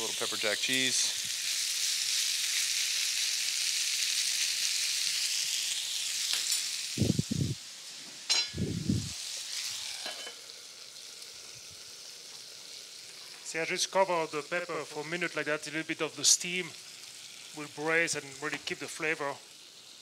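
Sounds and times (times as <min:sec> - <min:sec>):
vegetables sizzling in a pan: 0:00.0 - 0:20.0.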